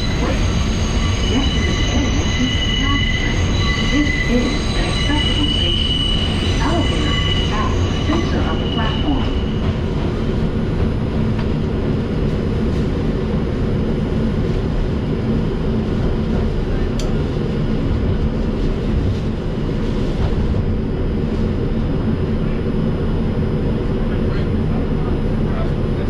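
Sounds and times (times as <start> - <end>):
subway car rumble and hum: 0.0 - 26.0.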